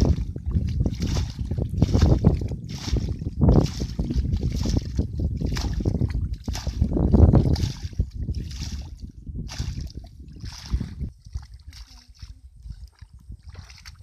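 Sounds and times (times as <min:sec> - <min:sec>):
water splashing from scoop: 0:00.0 - 0:14.0.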